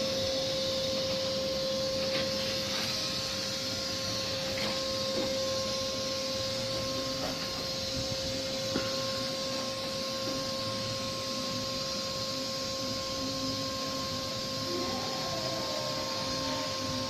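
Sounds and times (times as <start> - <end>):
electrical hum with hiss: 0.0 - 17.0.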